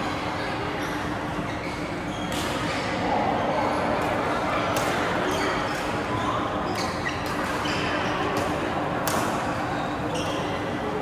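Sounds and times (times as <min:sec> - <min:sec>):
murmur in large hall: 0:00.0 - 0:11.0.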